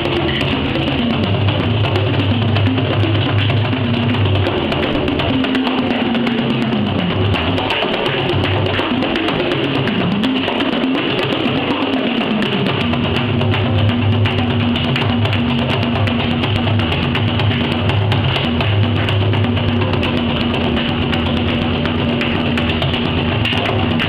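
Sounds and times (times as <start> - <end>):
frame drums fast rhythm: 0.0 - 24.0.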